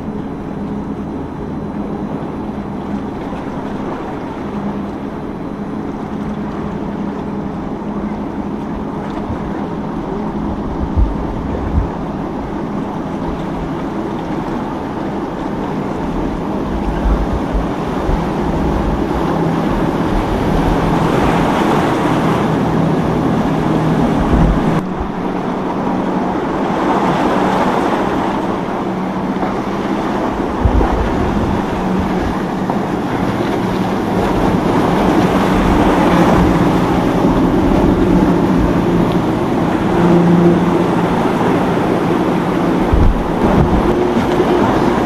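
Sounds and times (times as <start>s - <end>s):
boat engines droning: 0.0s - 45.0s
waves and surf: 0.0s - 45.0s
wind buffeting the microphone: 7.8s - 45.0s.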